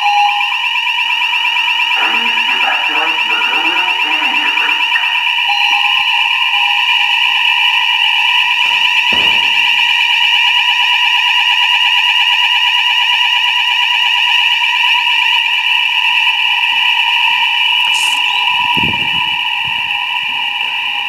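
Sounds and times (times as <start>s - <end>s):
fire alarm sounder: 0.0s - 21.0s.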